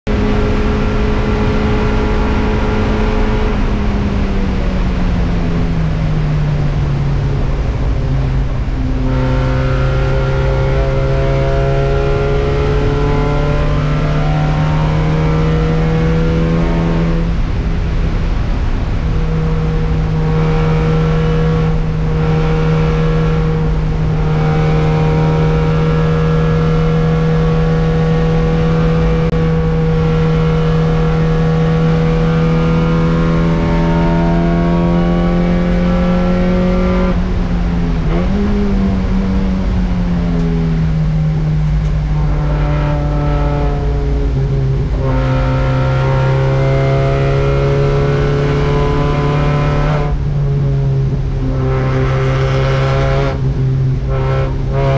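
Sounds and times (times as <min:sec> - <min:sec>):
road noise: 0:00.0 - 0:54.9
race car engine revving: 0:00.1 - 0:54.9.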